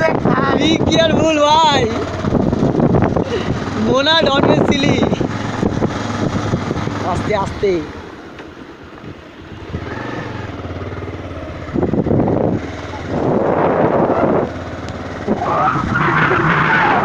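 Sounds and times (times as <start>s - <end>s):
wind buffeting microphone: 0.0s - 7.8s, 9.0s - 17.0s
motorcycle engine running: 0.0s - 17.0s.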